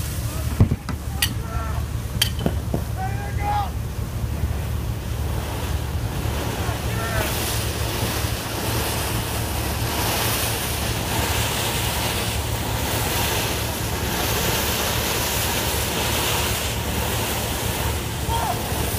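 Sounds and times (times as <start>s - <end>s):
deep rumble: 0.0s - 18.9s
gas blowing out roar: 0.0s - 18.9s.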